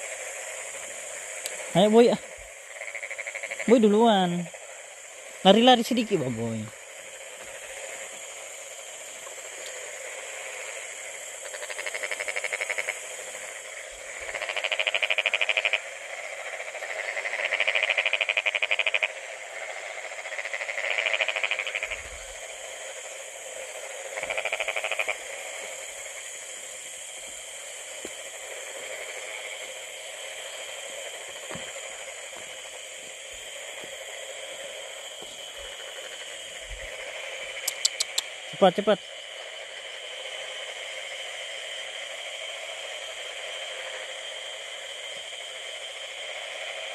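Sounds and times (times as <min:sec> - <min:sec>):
frogs trilling: 0:00.0 - 0:46.9
high-pitched frog chorus: 0:00.0 - 0:46.9.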